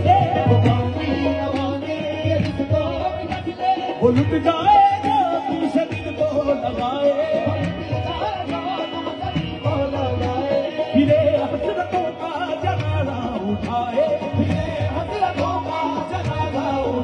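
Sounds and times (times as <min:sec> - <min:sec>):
hand drum beat: 0:00.0 - 0:17.0
harmoniums: 0:00.0 - 0:17.0
lead vocalist singing: 0:00.0 - 0:17.0.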